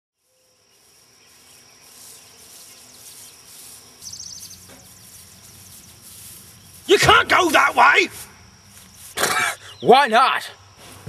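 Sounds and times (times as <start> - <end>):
high insect drone: 0.2 - 11.0
rapid high chirps: 0.9 - 10.0.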